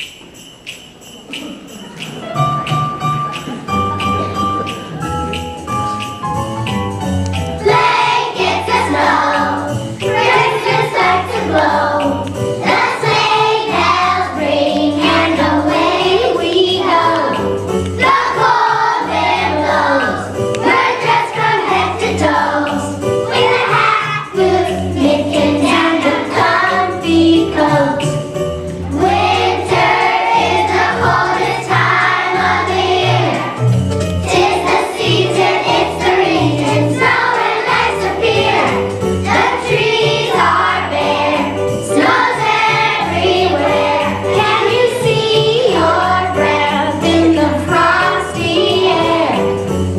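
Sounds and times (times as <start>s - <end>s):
children's choir singing a winter song: 0.0s - 6.1s, 7.3s - 49.9s
instrumental accompaniment: 0.0s - 49.9s
children's choir singing: 7.6s - 28.2s, 28.9s - 49.7s.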